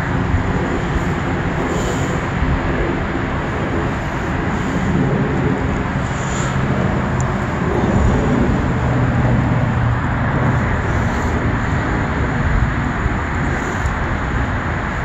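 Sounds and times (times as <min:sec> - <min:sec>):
city traffic: 0:00.0 - 0:15.0
low engine hum: 0:00.0 - 0:15.0.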